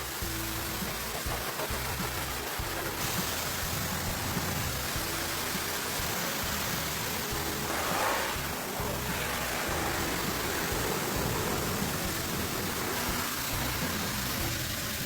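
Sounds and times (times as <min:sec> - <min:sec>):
cleaning machine hissing: 0:00.0 - 0:15.0.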